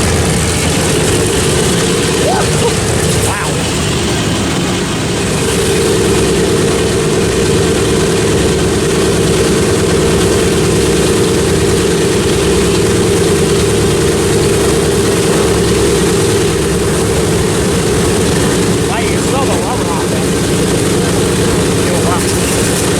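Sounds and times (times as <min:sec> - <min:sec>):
propeller engines droning: 0:00.0 - 0:22.9.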